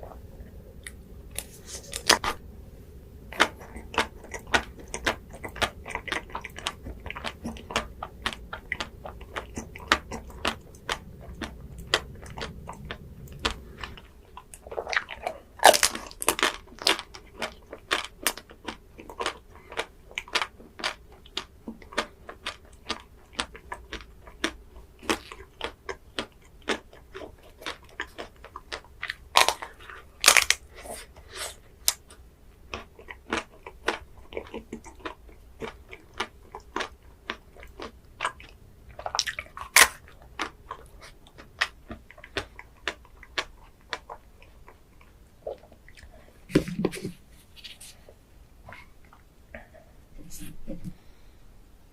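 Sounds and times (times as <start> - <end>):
person chewing ice cream: 3.1 - 48.1.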